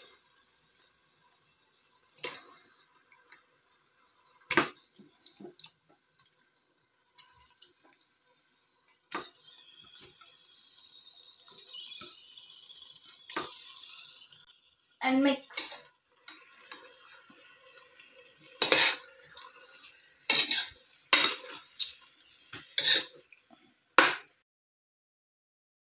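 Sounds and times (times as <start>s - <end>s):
meat sizzling in pan: 0.0s - 24.4s.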